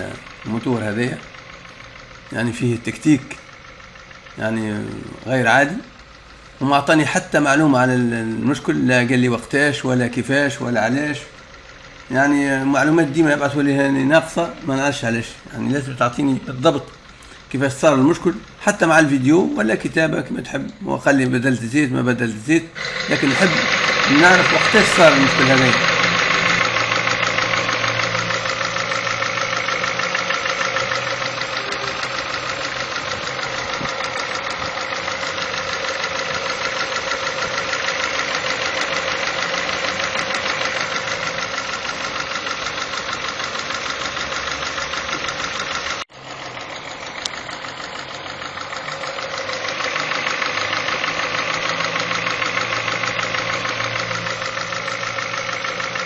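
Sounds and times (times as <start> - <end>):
car engine idling with ticking: 0.0 - 56.0.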